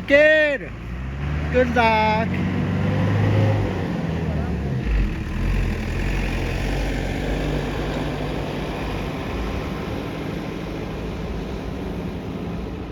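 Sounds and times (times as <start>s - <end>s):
car engine humming: 0.0s - 12.9s.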